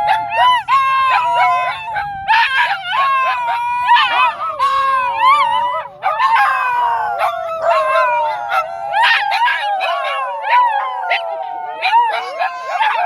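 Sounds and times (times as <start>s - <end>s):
dogs howling: 0.0s - 13.0s
dogs yipping and barking: 0.0s - 13.0s.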